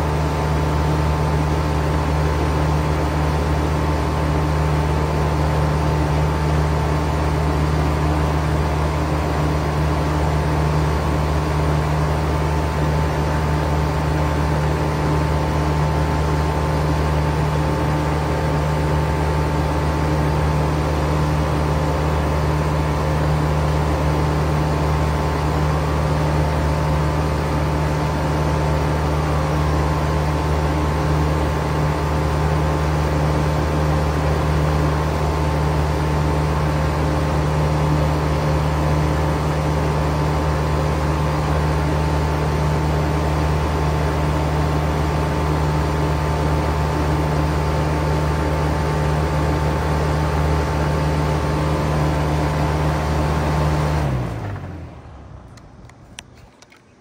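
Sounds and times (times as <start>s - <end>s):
heat pump humming: 0.0s - 57.0s.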